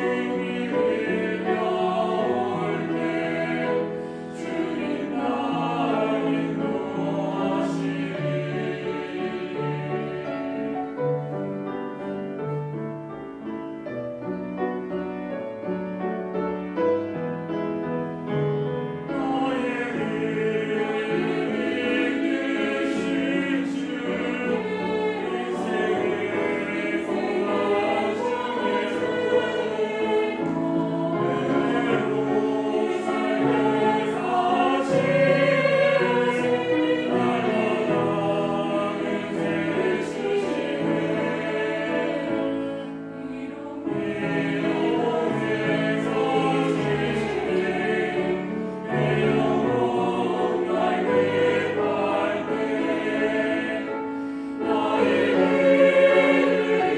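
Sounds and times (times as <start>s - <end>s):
mixed choir singing a hymn: 0.0s - 12.8s, 14.7s - 56.9s.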